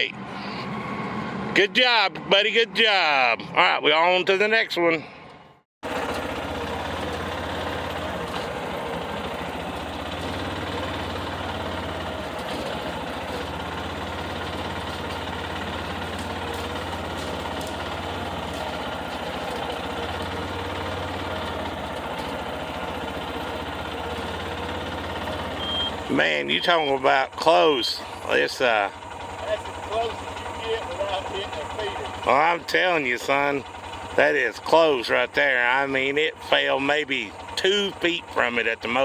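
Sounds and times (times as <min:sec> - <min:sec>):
vehicle engine running steadily: 0:00.0 - 0:03.8, 0:04.9 - 0:39.0.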